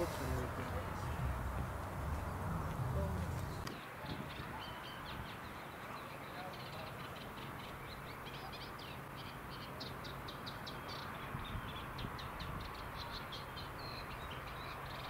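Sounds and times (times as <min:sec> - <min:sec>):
outdoor background noise: 0:00.0 - 0:15.0
small songbird chirping: 0:00.0 - 0:15.0.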